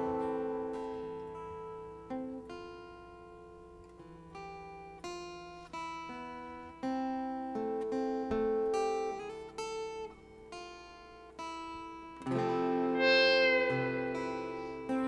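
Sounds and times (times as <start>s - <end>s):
picked guitar notes: 0.0s - 15.0s.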